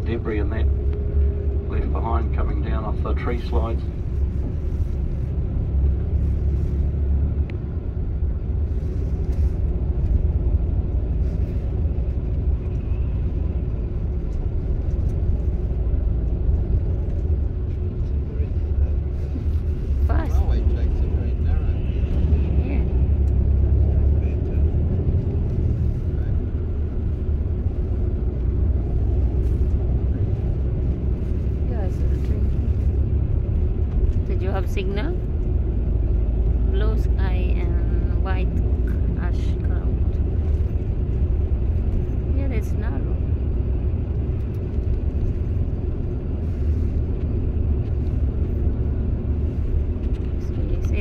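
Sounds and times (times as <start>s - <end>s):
bus engine and tyre drone: 0.0s - 51.0s.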